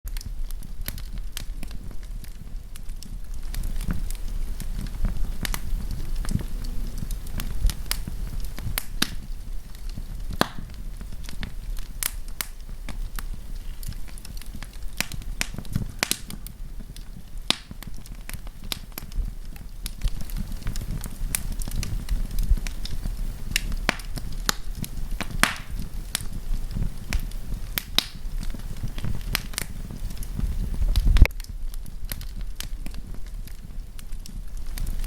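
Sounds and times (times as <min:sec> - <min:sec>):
campfire crackling and popping: 0:00.1 - 0:35.0
low rumble of flames: 0:00.1 - 0:35.0.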